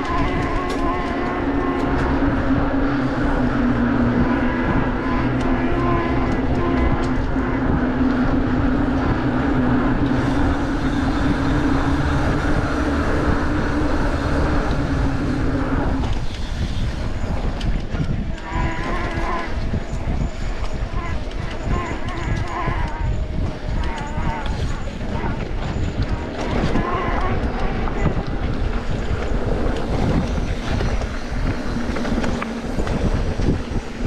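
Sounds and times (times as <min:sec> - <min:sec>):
rumbling noise: 0:00.0 - 0:34.0.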